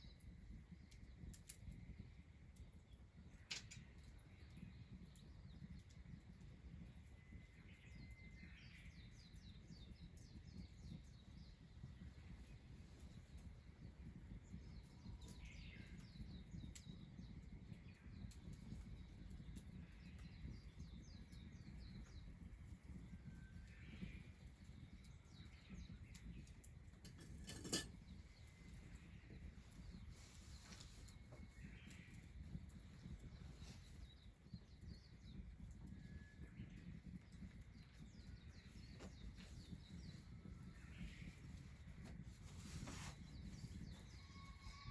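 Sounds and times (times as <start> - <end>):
faint birds chirping: 0.0 - 44.9.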